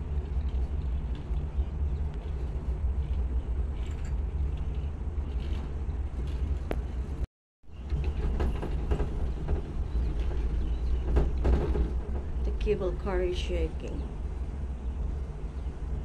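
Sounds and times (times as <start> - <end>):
cable car rumble: 0.0 - 16.0.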